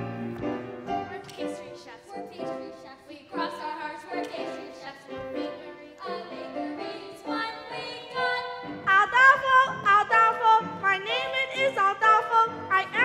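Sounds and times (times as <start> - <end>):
piano accompaniment: 0.0 - 13.0.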